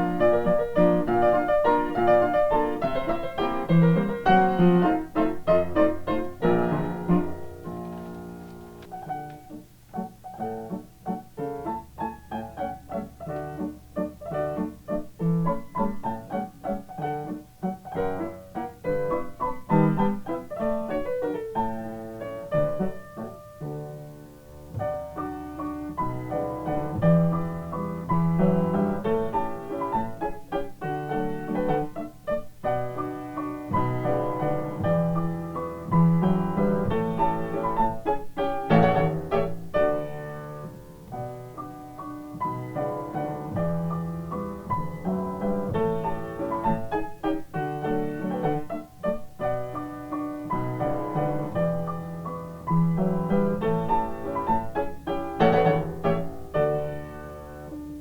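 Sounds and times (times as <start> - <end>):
piano playing a waltz: 0.0 - 58.0.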